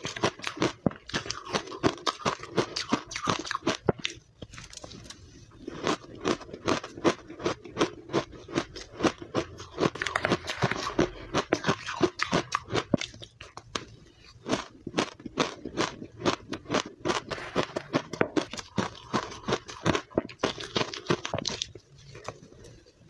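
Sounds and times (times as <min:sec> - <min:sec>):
ice crunching when chewed: 0:00.0 - 0:23.0.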